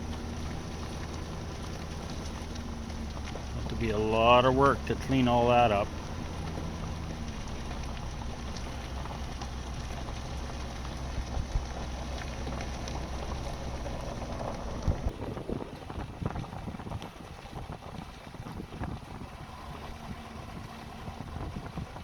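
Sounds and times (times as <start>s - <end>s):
engine and road hum: 0.0s - 22.0s
vehicle bumps and rattles: 0.0s - 22.0s.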